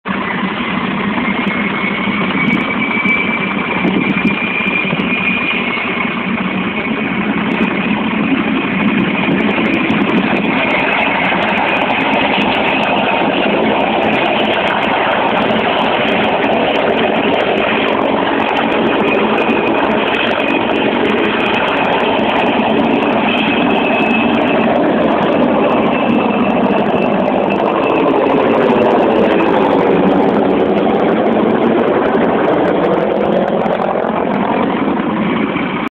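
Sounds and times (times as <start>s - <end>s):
helicopter engine and rotor noise: 0.1s - 35.9s
helicopter turbine whine: 0.1s - 35.9s.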